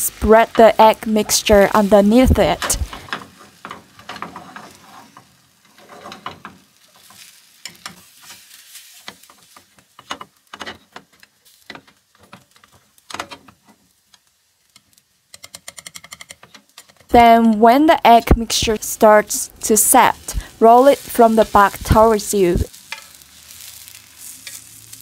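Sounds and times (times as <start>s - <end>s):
egg sizzling in pan: 0.0s - 16.0s, 18.2s - 25.0s.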